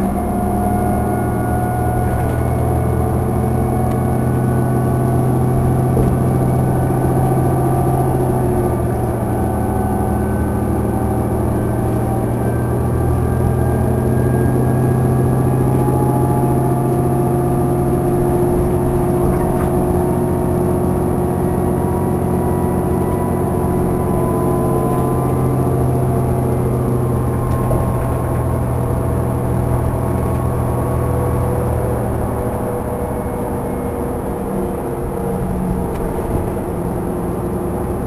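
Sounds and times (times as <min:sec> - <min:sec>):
bus engine drone: 0:00.0 - 0:38.0
road rumble: 0:00.0 - 0:38.0
whining tones: 0:00.0 - 0:38.0.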